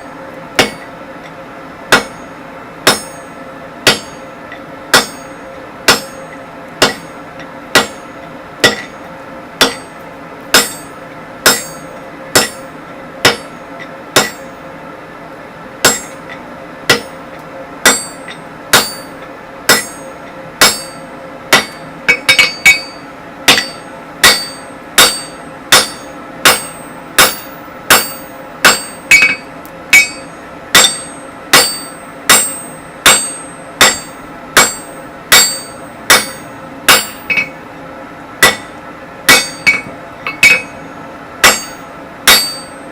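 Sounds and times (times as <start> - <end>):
anvil ringing: 0.6 - 0.9, 1.9 - 4.3, 4.9 - 9.0, 9.6 - 13.6, 14.2 - 14.6, 15.8 - 17.2, 17.8 - 37.6, 38.4 - 40.8, 41.4 - 42.9
hammer blows on an anvil: 0.6 - 1.0, 1.9 - 4.3, 4.9 - 9.0, 9.6 - 14.6, 15.8 - 17.2, 17.8 - 37.6, 38.4 - 40.8, 41.4 - 42.9.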